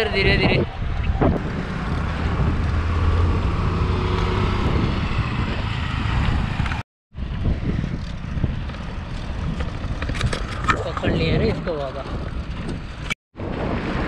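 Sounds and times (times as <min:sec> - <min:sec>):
road traffic rumble: 0:00.0 - 0:13.1
wind on camera microphone: 0:00.0 - 0:14.0.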